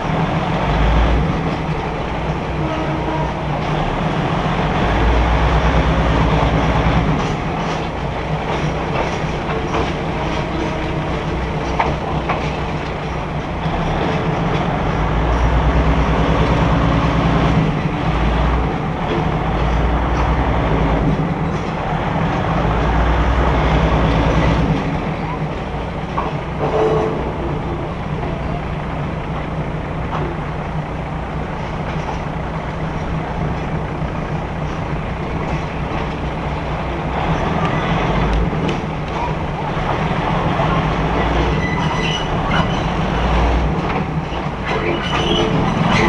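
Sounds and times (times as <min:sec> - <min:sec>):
diesel railcar engine drone: 0:00.0 - 0:46.0
wheels clicking on rails: 0:00.0 - 0:46.0.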